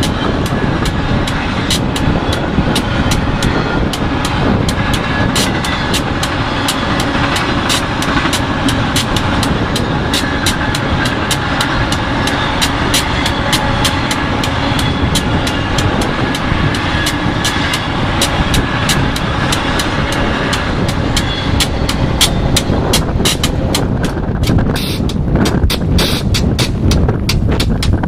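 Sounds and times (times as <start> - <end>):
rapid wheel clicks: 0.0 - 28.0
train wheels rumbling on rail: 0.0 - 28.0.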